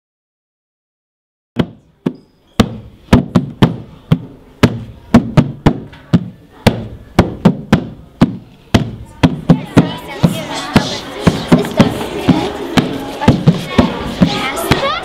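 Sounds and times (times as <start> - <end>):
percussion knocking beat: 1.6 - 15.0.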